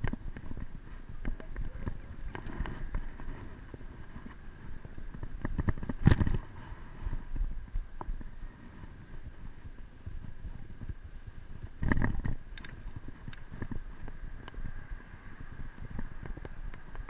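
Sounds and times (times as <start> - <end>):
bicycle rattling over bumps: 0.0 - 17.0
wind rumble on microphone: 0.0 - 17.0.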